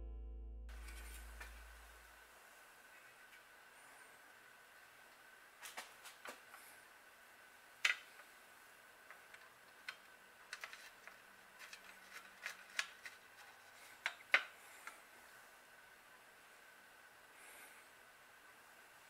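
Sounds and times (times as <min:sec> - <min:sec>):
faint high hum: 0:00.0 - 0:19.0.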